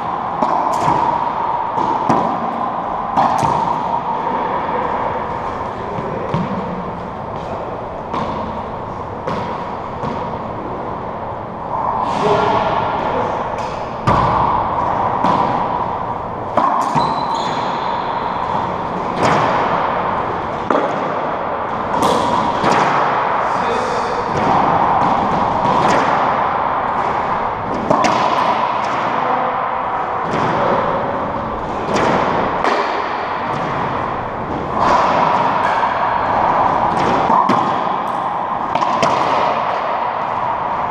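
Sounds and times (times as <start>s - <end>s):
racquetball hitting racquets and walls: 0.0s - 40.9s.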